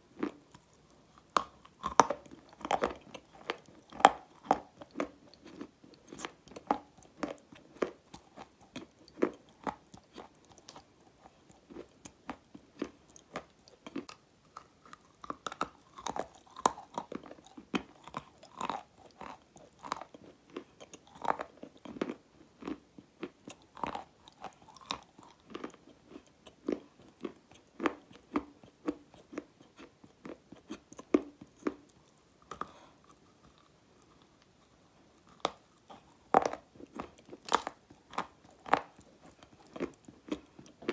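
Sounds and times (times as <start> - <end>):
chewing and crunching clay: 0.0 - 40.9.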